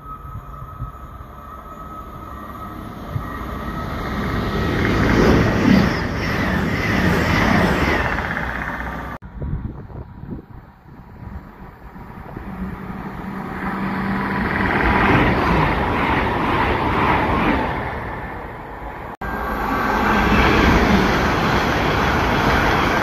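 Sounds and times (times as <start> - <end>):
trains rushing past: 0.0 - 23.0.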